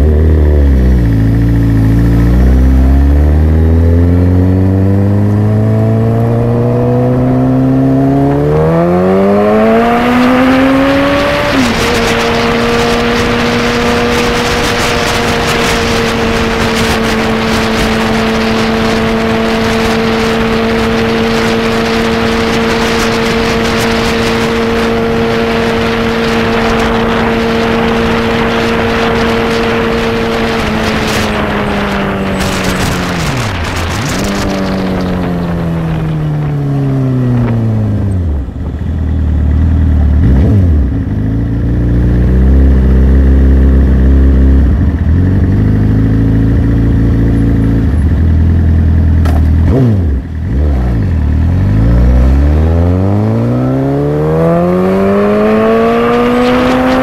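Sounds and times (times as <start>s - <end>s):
motorcycle engine: 0.0s - 57.0s
wind rush: 0.6s - 39.3s, 49.7s - 57.0s.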